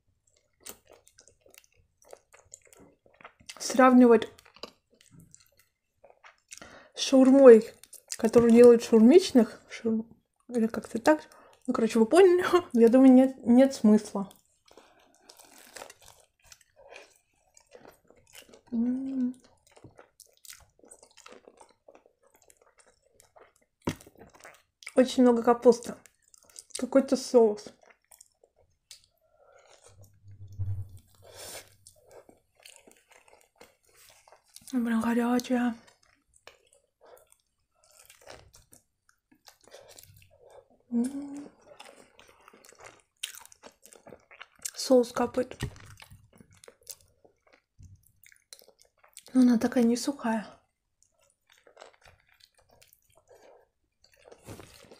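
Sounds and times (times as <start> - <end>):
wet chewing sounds: 0.0 - 54.9.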